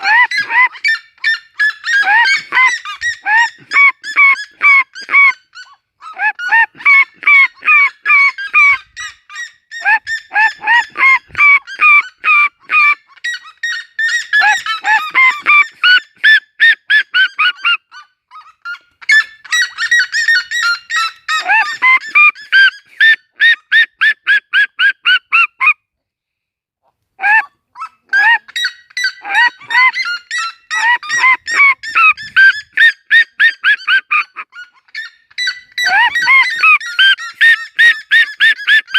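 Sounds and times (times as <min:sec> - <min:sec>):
seriema yelping calls: 0:00.0 - 0:25.8, 0:27.2 - 0:38.9.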